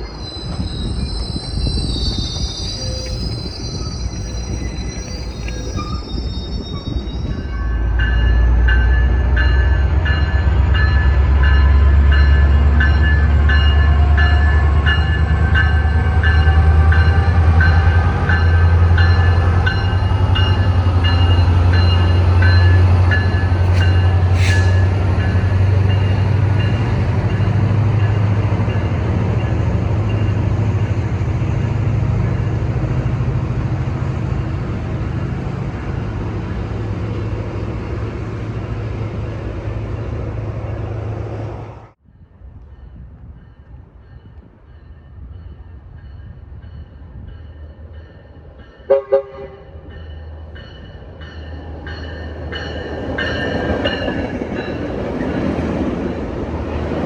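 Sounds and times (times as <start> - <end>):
diesel train engine drone: 0.0 - 57.0.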